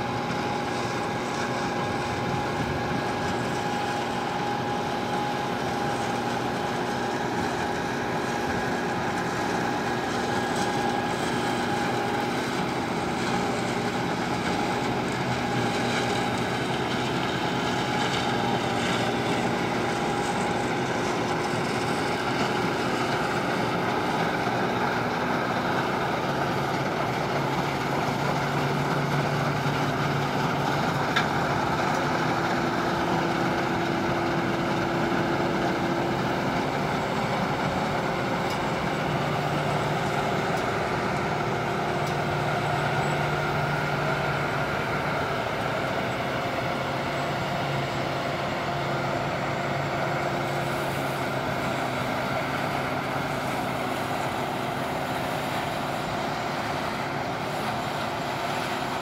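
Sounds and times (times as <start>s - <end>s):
combine harvester running: 0.0s - 59.0s
steady machinery whine: 0.0s - 59.0s.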